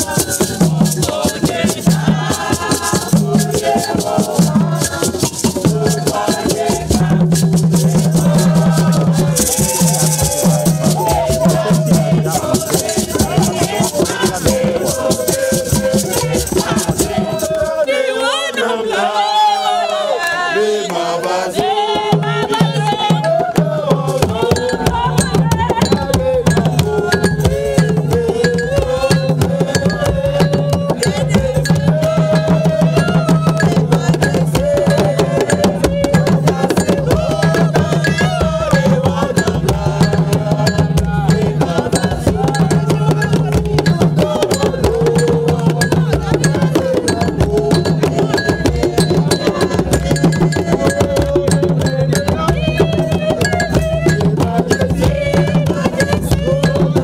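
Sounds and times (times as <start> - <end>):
hand drums beating: 0.0 - 17.8, 21.6 - 57.0
group singing: 0.0 - 57.0.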